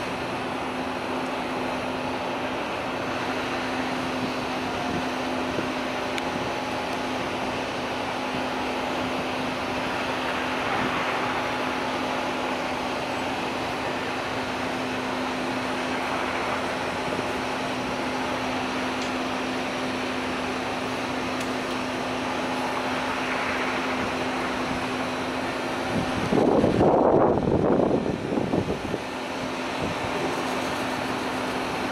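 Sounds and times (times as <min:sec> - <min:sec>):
constant low hum: 0:00.0 - 0:31.9
ship machinery and ventilation fans: 0:00.0 - 0:31.9.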